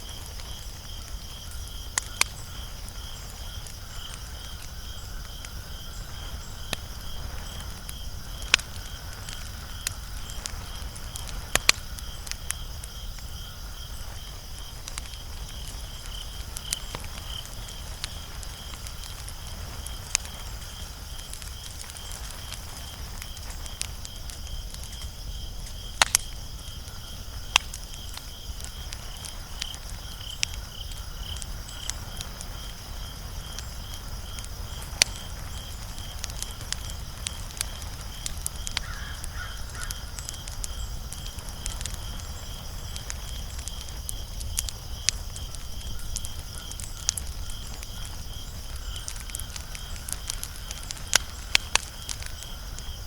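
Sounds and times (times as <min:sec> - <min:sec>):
insects chirping: 0:00.0 - 0:53.0
wood fire crackling and popping: 0:00.0 - 0:53.0.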